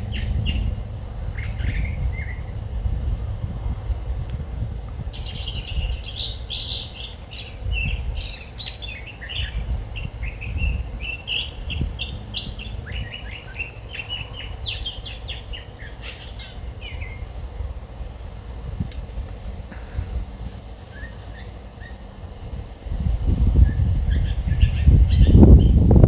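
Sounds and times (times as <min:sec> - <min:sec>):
small birds chirping and twittering: 0:00.0 - 0:26.0
wind rumble on microphone: 0:00.0 - 0:26.0.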